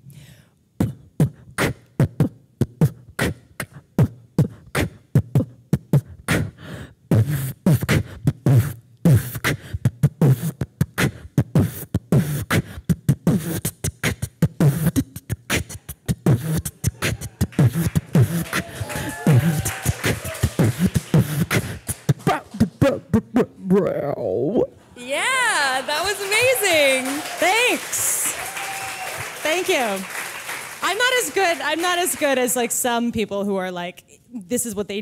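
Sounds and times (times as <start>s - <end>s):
woman beatboxing: 0.8s - 23.6s, 25.0s - 28.4s, 29.4s - 30.1s, 30.8s - 35.0s.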